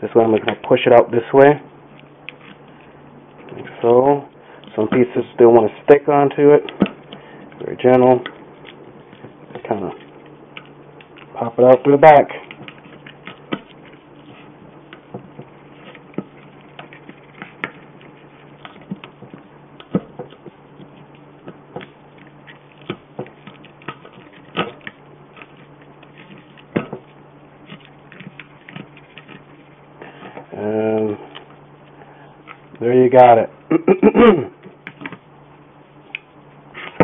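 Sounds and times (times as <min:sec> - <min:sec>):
steady low hum: 0:00.0 - 0:37.0
wood fibres popping and snapping: 0:01.8 - 0:33.0.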